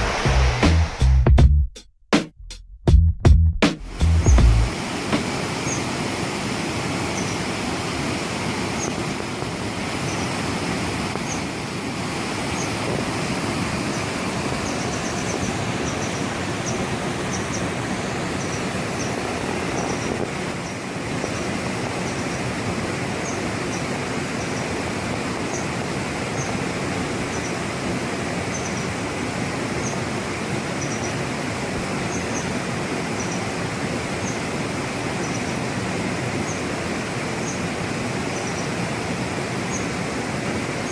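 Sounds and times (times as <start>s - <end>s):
white water rushing: 3.9s - 40.9s.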